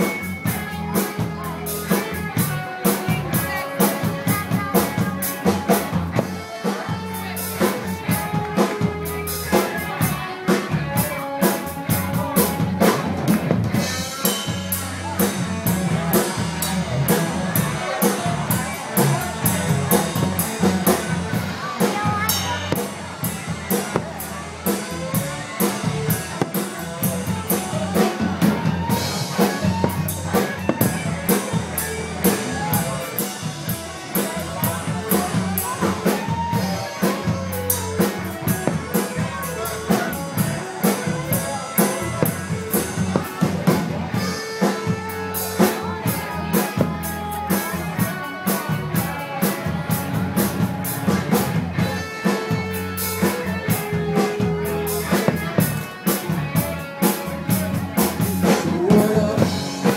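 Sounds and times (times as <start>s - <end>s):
music with steady drum beat: 0.0s - 59.9s.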